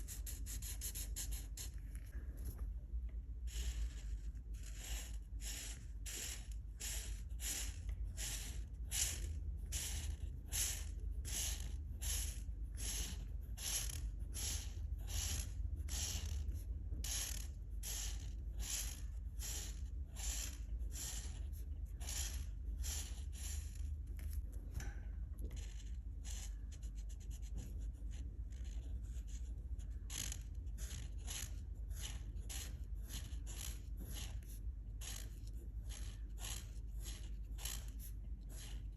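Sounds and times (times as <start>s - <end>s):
colouring strokes scratching on paper: 0.0s - 2.2s, 3.3s - 24.4s, 25.4s - 38.9s.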